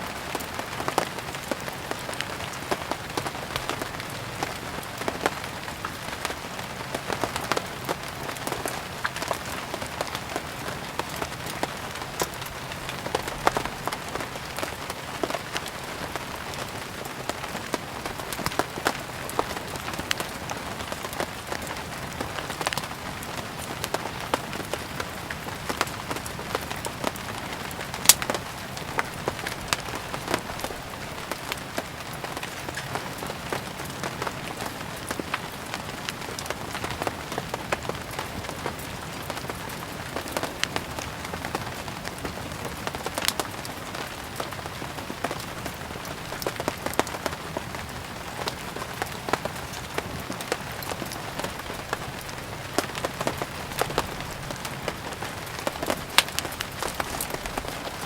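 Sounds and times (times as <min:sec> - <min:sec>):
steady rain hiss: 0:00.0 - 0:58.0
firewood crackling and popping: 0:00.1 - 0:58.0.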